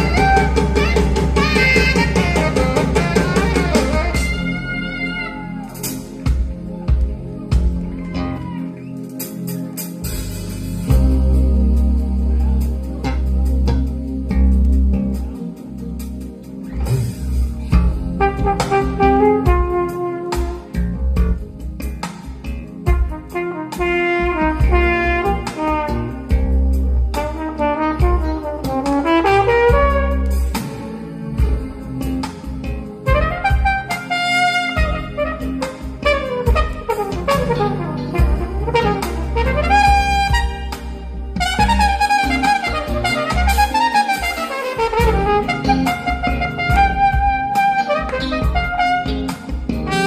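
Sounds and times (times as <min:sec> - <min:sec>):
brass horn melody: 0:00.0 - 0:06.6, 0:08.4 - 0:50.0
heavy bass line: 0:00.0 - 0:50.0
percussion: 0:00.0 - 0:50.0.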